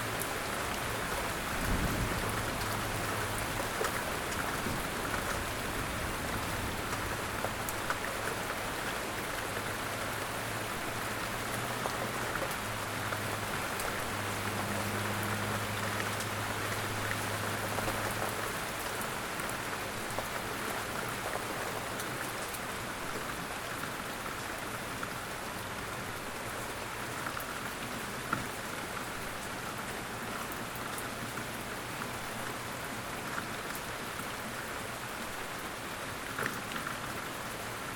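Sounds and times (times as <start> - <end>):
light rain falling: 0.0 - 37.9.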